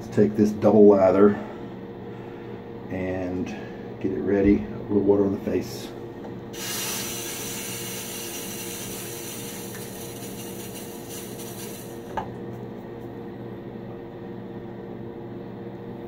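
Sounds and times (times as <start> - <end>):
exhaust fan humming: 0.0 - 16.0.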